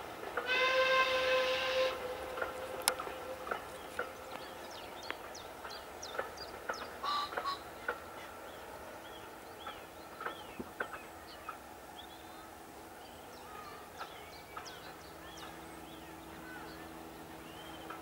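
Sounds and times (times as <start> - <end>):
birds chirping: 1.9 - 18.0.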